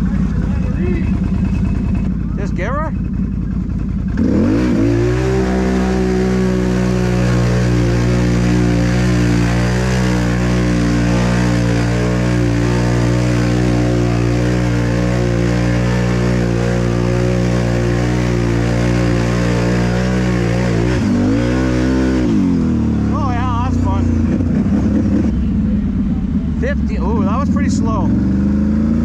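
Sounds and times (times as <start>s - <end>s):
atv engine revving: 0.0s - 29.0s
atv churning through mud: 3.1s - 29.0s.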